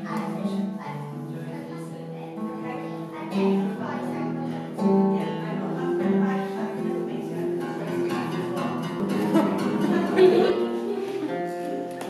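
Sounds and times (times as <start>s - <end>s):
plucked string melody: 0.0s - 12.0s.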